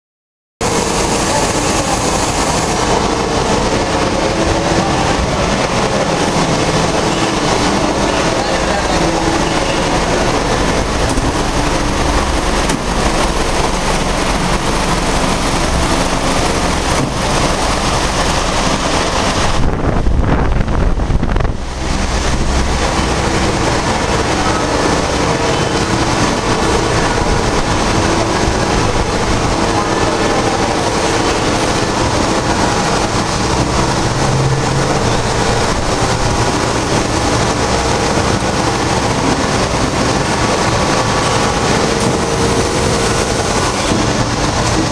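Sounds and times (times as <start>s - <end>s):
deep rumble: 0.6s - 44.9s
workshop machinery running: 0.6s - 44.9s.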